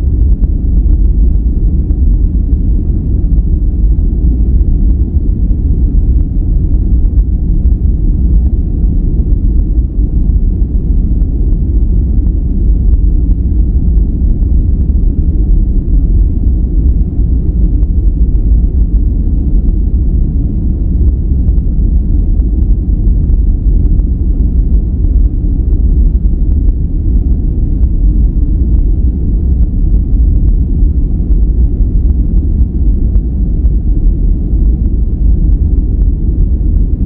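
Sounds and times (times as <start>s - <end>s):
deep rumbling brown noise: 0.0s - 37.0s.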